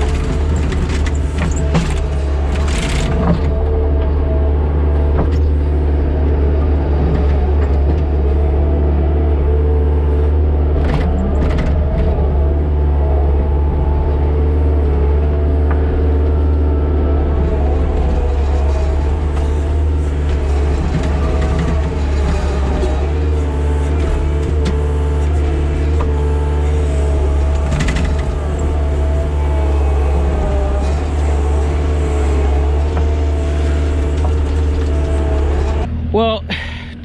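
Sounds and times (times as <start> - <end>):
earthmoving machine engine droning: 0.0 - 37.0.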